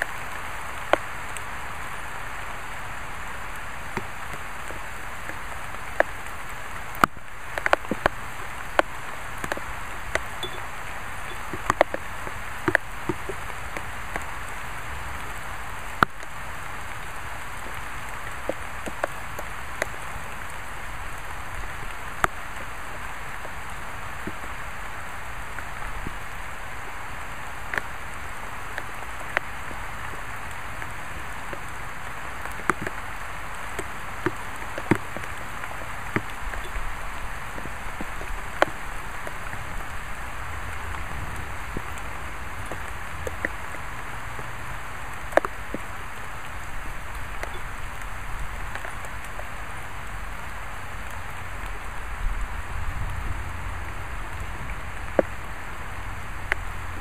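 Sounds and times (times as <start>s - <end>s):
raindrops tapping on hard surface: 0.0s - 55.6s, 56.2s - 57.0s
light rain hiss: 0.0s - 57.0s.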